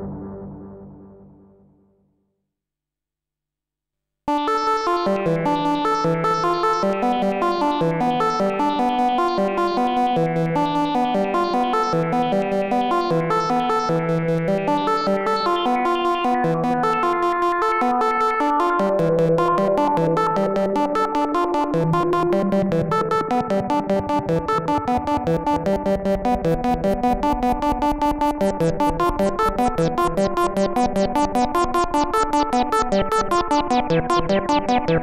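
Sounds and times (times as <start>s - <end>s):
synthesizer sequenced notes: 4.3s - 35.0s.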